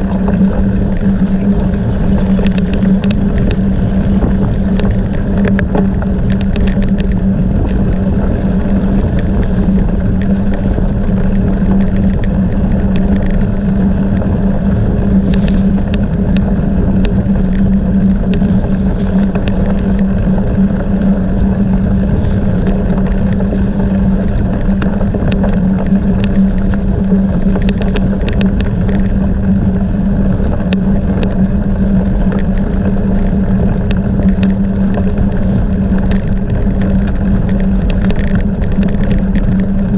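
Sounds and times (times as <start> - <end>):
loose stones ticking: 0.0 - 29.5, 32.0 - 39.9
bicycle tyres rolling over gravel: 0.0 - 39.9
wind buffeting microphone: 0.0 - 39.9.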